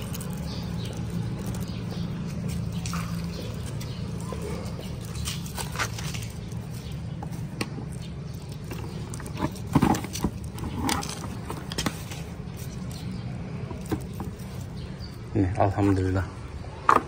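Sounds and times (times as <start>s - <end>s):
rustles and knocks of handling: 0.0s - 14.9s.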